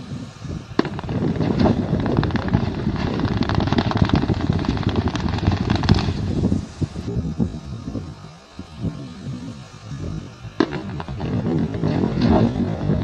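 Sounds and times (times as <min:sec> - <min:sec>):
deep rumble: 0:00.6 - 0:13.0.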